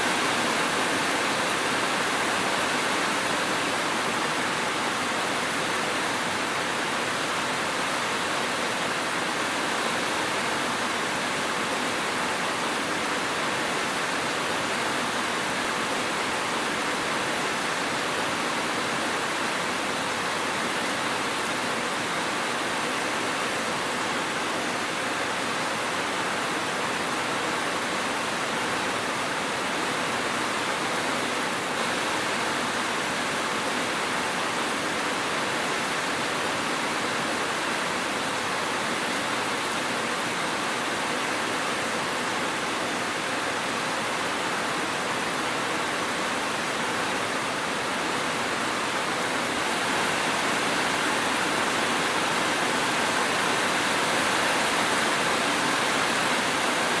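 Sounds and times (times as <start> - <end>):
steady dense rain: 0.0 - 57.0.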